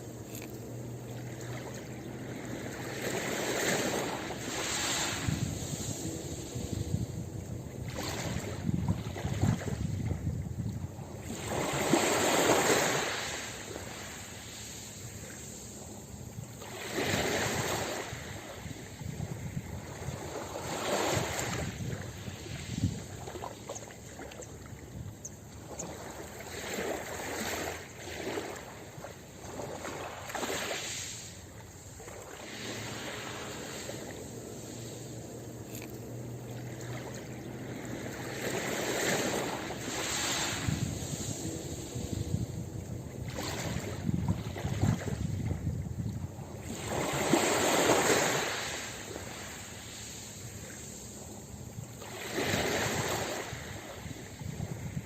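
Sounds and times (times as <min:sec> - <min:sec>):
ocean waves breaking on a beach: 0:00.0 - 0:55.0.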